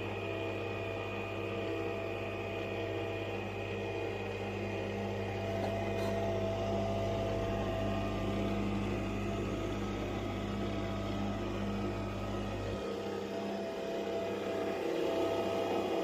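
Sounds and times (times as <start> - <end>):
coffee machine whirring hum: 0.0 - 16.0.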